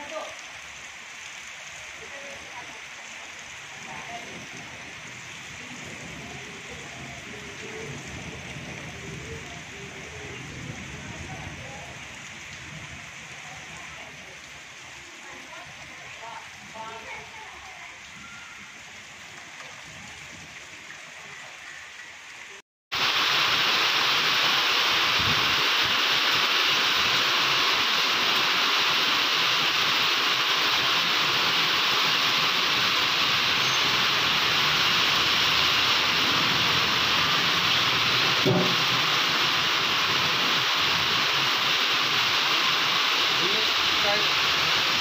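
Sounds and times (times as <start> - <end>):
heavy rain pouring: 0.0 - 45.0.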